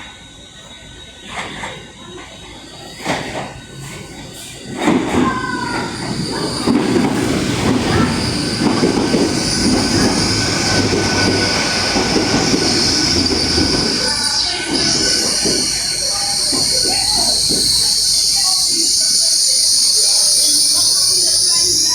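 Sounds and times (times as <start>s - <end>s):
train rumbling on rails: 0.0s - 21.9s
train wheel squeal: 0.0s - 21.9s.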